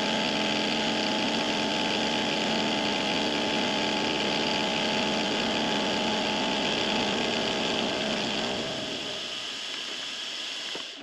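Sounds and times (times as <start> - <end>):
machine tool cutting metal: 0.0 - 9.4.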